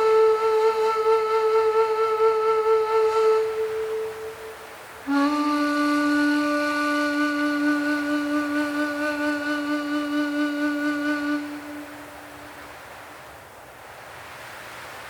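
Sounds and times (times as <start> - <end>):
low flute-like note: 0.0 - 12.6
faint airy hiss: 0.0 - 15.0.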